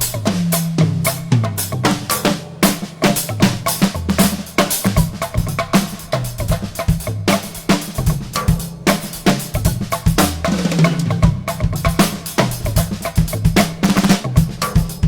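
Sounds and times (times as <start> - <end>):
drum kit playing fast: 0.0 - 15.0.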